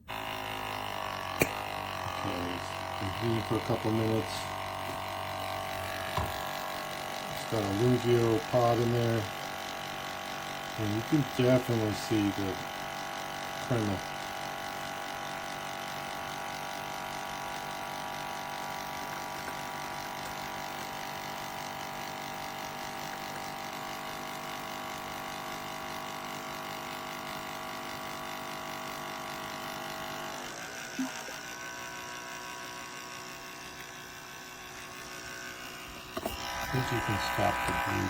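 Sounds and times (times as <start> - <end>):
espresso machine pump buzzing: 0.0 - 38.0.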